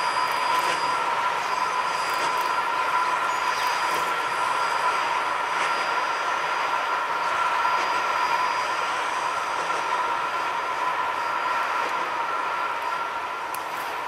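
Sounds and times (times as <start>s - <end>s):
high-pitched ringing tone: 0.0s - 14.0s
steam train running: 0.0s - 14.0s.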